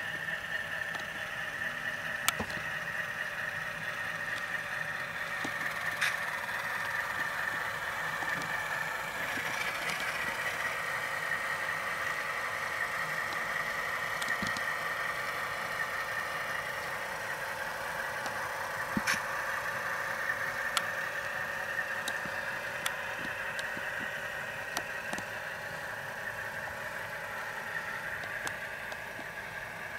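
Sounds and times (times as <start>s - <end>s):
diesel engine through small speaker: 0.0s - 29.9s.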